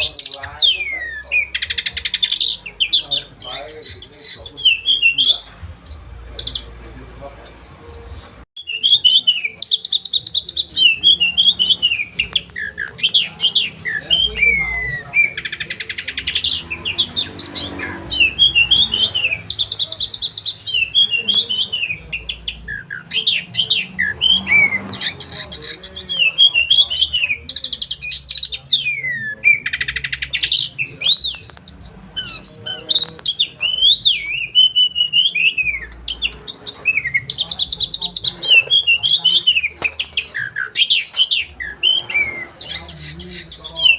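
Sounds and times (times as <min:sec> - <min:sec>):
rapid rattling bird notes: 0:00.0 - 0:43.9
songbird singing: 0:00.0 - 0:43.9.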